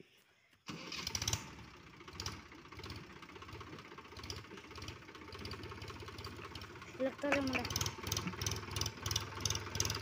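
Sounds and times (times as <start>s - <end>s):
tractor diesel engine running: 0.7s - 10.0s.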